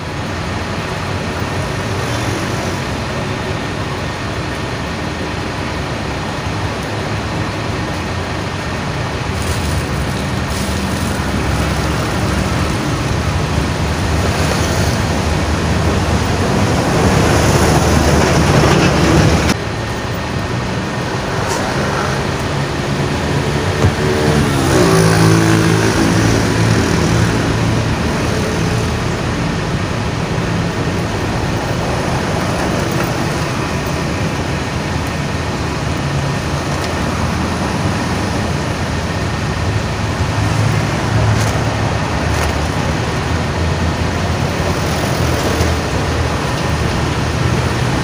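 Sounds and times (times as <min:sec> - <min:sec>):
road traffic: 0:00.0 - 0:48.0
vehicle engines running: 0:00.0 - 0:48.0.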